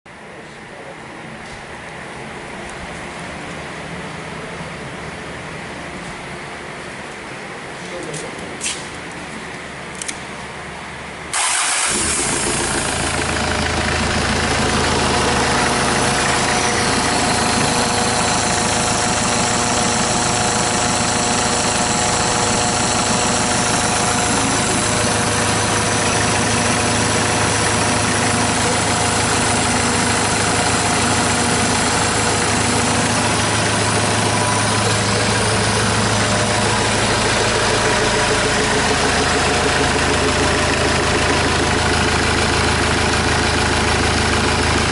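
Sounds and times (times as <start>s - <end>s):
diesel engine starting and idling: 8.6s - 44.9s.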